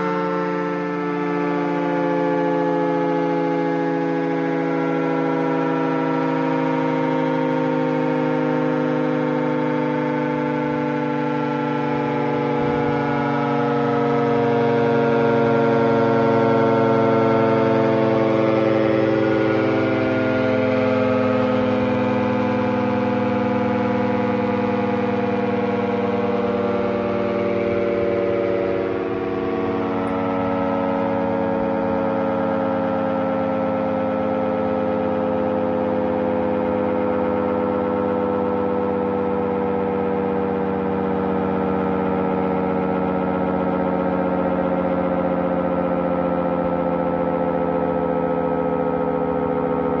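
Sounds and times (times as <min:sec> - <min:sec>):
air raid siren winding down: 0:00.0 - 0:50.0.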